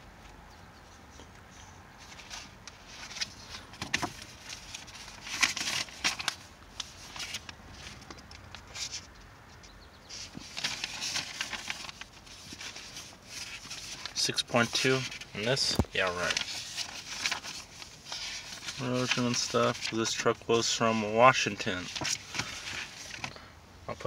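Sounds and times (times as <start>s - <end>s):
paper pages rustling: 1.5s - 9.1s, 10.1s - 23.3s.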